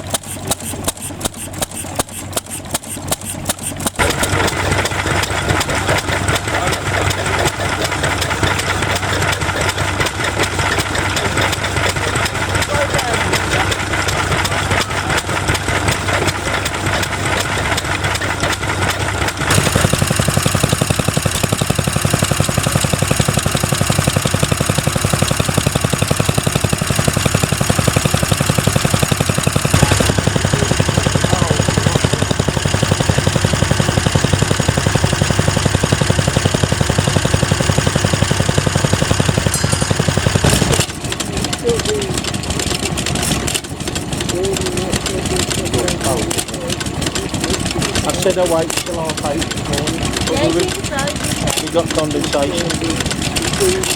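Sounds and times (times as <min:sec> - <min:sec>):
stationary engines running: 0:00.0 - 0:53.9.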